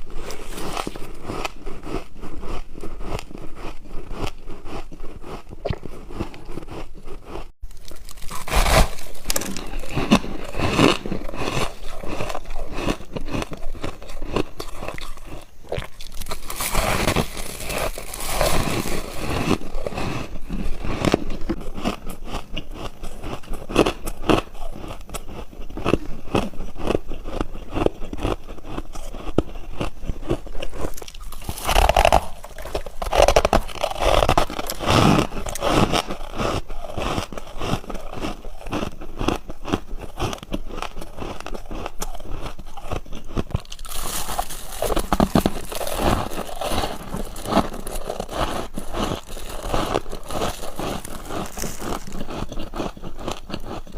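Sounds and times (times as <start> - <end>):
ice being chewed: 0.0 - 53.9.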